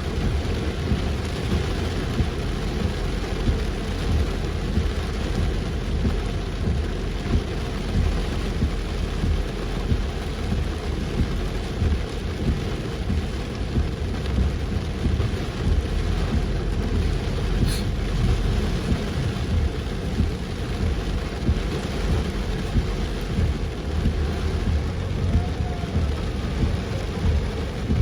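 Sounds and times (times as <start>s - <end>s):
dense low rumble: 0.0s - 28.0s
heavy rain on a moving car: 0.0s - 28.0s.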